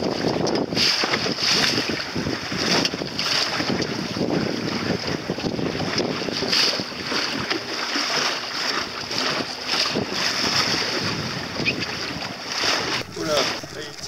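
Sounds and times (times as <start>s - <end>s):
sea water splashing and lapping: 0.0s - 14.0s
wind buffeting microphone: 0.0s - 14.0s.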